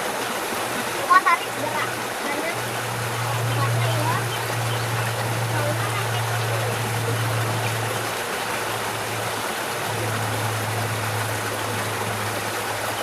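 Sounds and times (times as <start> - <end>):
low steady hum: 0.0 - 13.0
river water rushing: 0.0 - 13.0.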